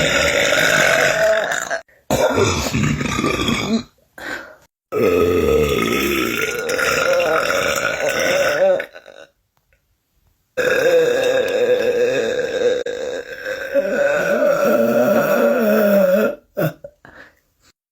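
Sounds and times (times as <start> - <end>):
person burping loudly: 0.0 - 4.0, 4.9 - 9.4, 10.6 - 17.0.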